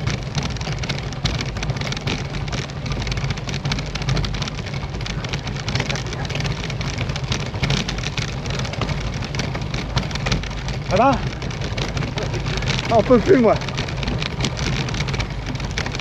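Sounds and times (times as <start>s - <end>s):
bike rattling: 0.0s - 16.0s
low wind rumble: 0.0s - 16.0s.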